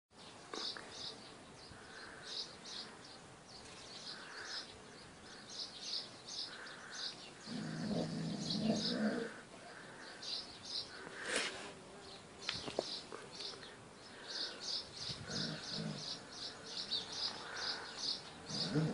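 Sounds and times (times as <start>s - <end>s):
small birds chirping: 0.1s - 18.9s.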